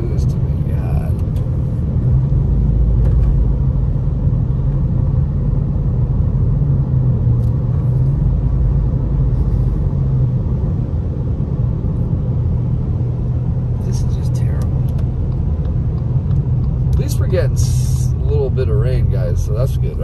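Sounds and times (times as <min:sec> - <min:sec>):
car engine rumble inside cabin: 0:00.0 - 0:20.0.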